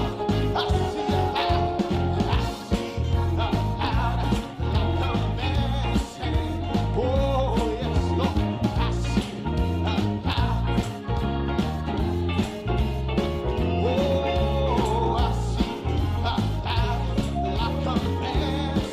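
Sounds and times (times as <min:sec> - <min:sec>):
instrumental gospel music: 0:00.0 - 0:18.9.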